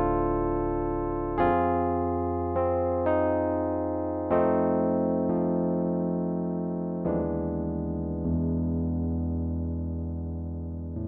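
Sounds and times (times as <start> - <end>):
synthesizer chord: 0.0 - 11.0.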